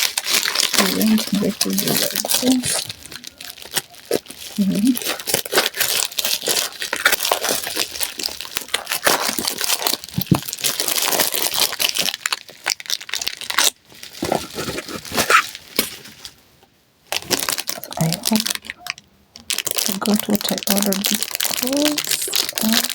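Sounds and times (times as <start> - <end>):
plastic packaging crinkling and tearing: 0.0 - 16.4, 17.1 - 22.9.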